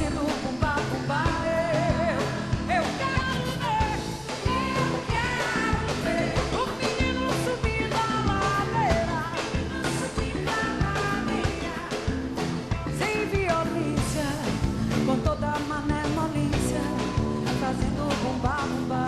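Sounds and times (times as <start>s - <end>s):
live band with driving percussion: 0.0s - 19.0s
woman singing: 0.0s - 19.0s.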